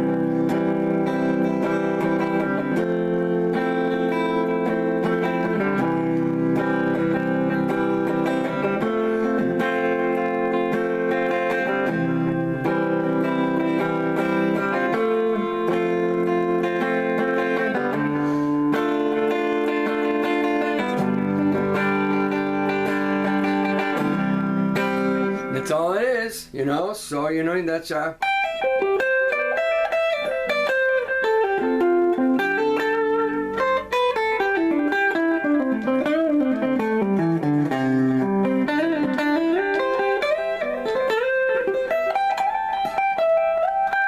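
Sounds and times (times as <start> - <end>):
guitar playing slow chords: 0.0 - 26.5, 28.2 - 44.0.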